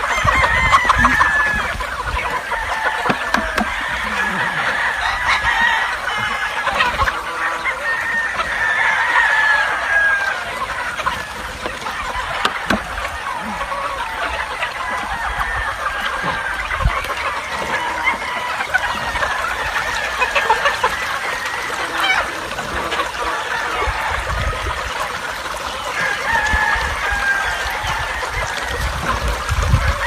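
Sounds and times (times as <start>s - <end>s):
chickens clucking: 0.0s - 30.0s
roosters crowing: 0.0s - 30.0s.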